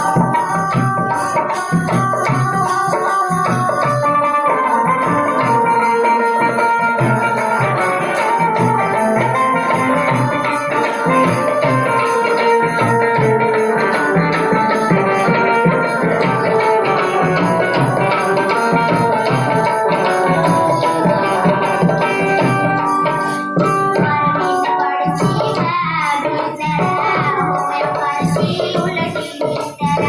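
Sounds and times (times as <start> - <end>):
instrumental melody of held notes: 0.0 - 29.9
steady drumming and percussion: 0.0 - 30.0.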